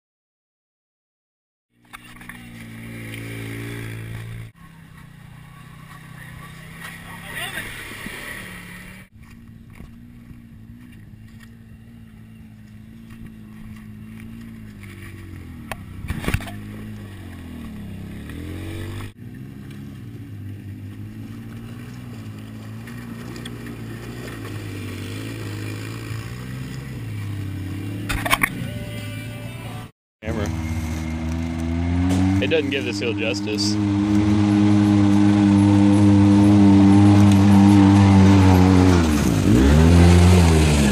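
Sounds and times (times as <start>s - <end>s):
off-road vehicle engine running: 1.7s - 40.9s.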